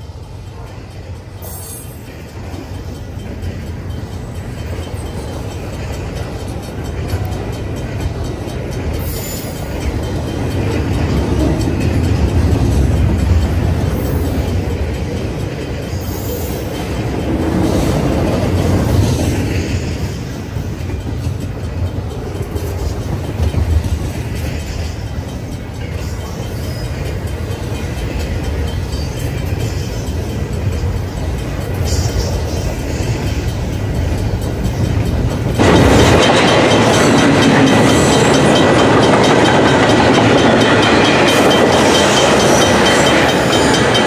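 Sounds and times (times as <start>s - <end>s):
freight train rumbling past: 0.0s - 44.0s
wheels clickety-clack: 0.0s - 44.0s.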